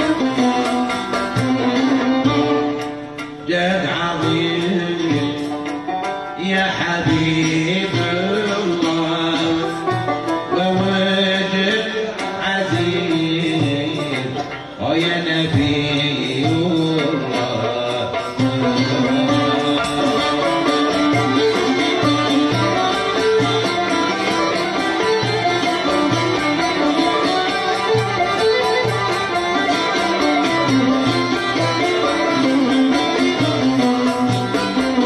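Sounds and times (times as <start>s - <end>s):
frame drum and hand drum: 0.0s - 35.0s
plucked banjo and lute: 0.0s - 35.0s
violin melody: 0.0s - 35.0s.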